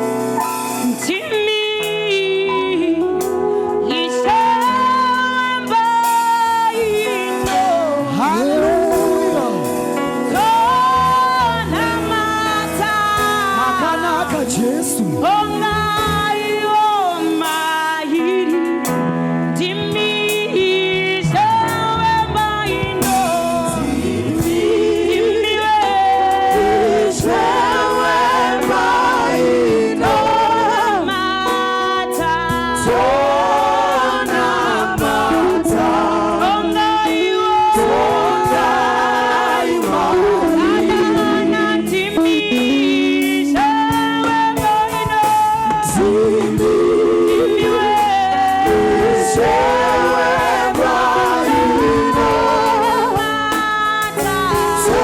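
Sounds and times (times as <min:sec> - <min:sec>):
choir singing gospel song: 0:02.5 - 0:55.0.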